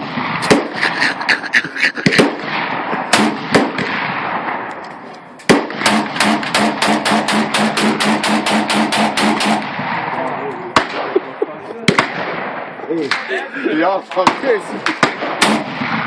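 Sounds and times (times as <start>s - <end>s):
gunshots: 0.0s - 13.5s, 14.1s - 16.0s.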